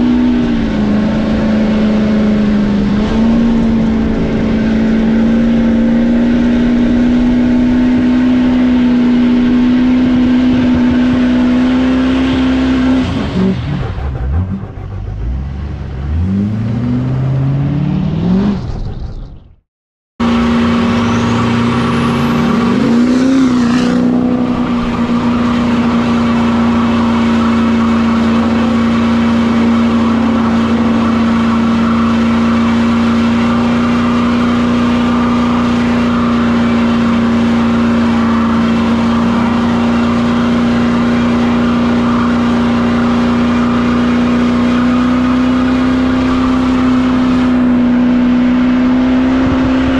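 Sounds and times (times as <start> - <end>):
diesel truck engine revving: 0.0 - 19.6, 20.2 - 49.9.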